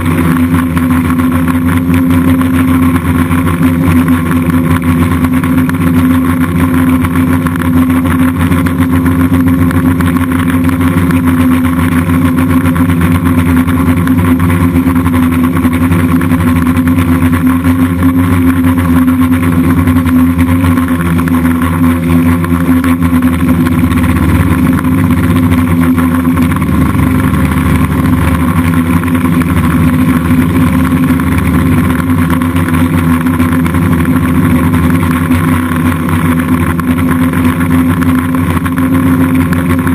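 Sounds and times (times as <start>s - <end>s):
drone motors and propellers humming: 0.0s - 39.9s.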